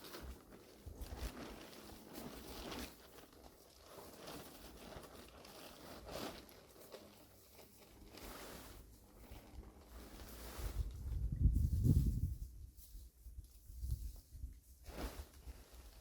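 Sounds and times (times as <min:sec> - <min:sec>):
faint rustling and scraping: 0:00.0 - 0:16.0.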